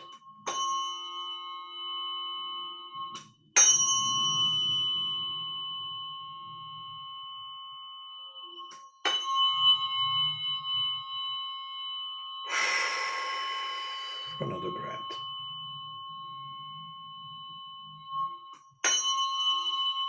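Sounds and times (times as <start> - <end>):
small metal bell ringing: 0.0 - 7.2, 8.4 - 12.6, 13.8 - 20.0.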